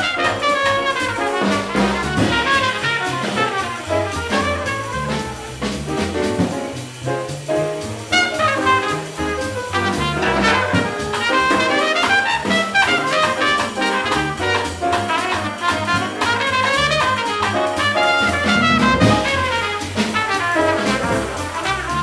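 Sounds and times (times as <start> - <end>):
drum kit: 0.0 - 22.0
jazz trumpet solo: 0.0 - 22.0
piano: 0.0 - 22.0
upright bass: 1.6 - 11.8, 12.9 - 22.0.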